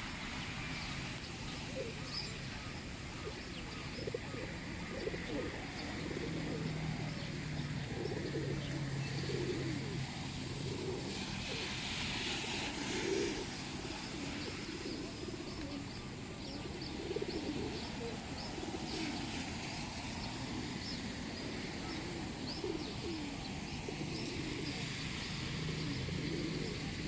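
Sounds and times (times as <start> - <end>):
sparrows chirping: 0.2 - 10.0, 13.9 - 27.0
pigeons cooing: 1.5 - 27.0.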